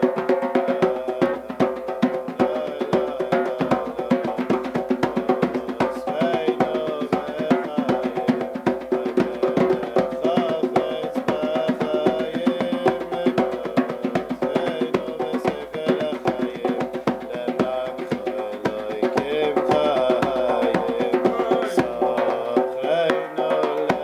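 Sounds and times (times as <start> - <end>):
hand drums played fast: 0.0 - 24.0.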